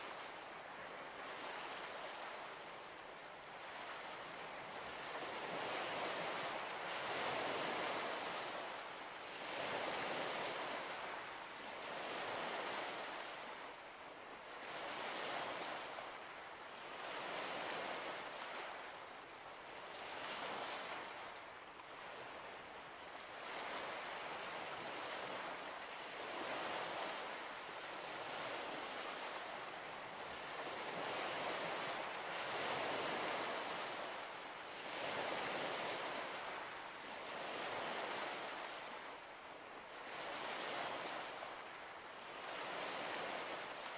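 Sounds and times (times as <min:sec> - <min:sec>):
small waves washing ashore: 0:00.0 - 0:43.9.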